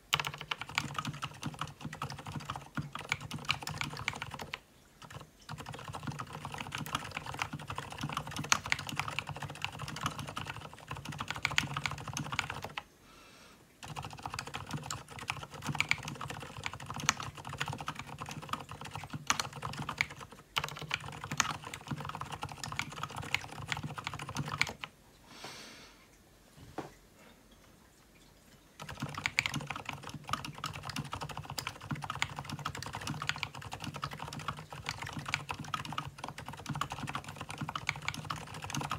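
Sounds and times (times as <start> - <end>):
typing on mechanical keyboard: 0.0 - 12.8, 13.8 - 24.9, 28.8 - 38.9.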